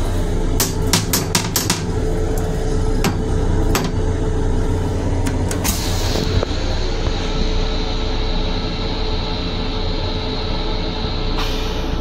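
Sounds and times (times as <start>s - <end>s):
railcar rumble and hum: 0.0s - 12.0s.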